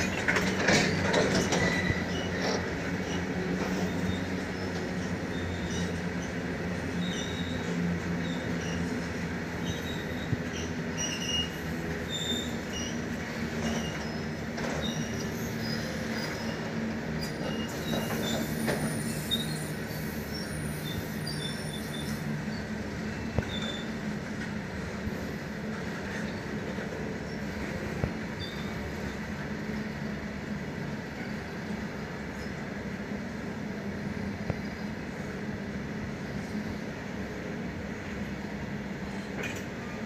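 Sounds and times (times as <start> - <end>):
high wheel squeaks: 0.0 - 33.0
train wheels rumbling on track: 0.0 - 40.0.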